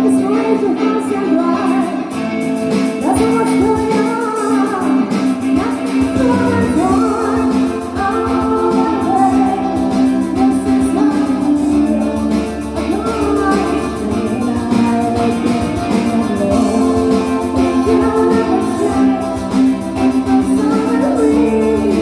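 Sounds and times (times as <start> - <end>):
guitar accompaniment: 0.0 - 22.0
person singing pop song: 0.0 - 22.0.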